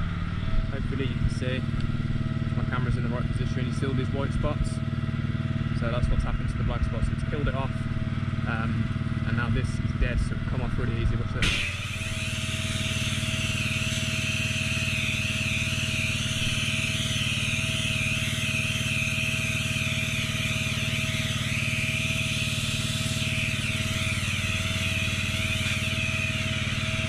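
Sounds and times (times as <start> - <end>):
pressure washer engine running: 0.0 - 27.0.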